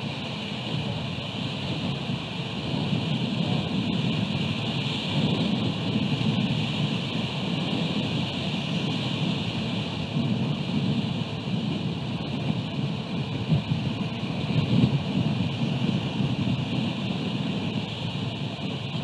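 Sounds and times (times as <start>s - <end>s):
rain hiss: 0.0s - 19.0s
wind rumble on microphone: 0.0s - 19.0s.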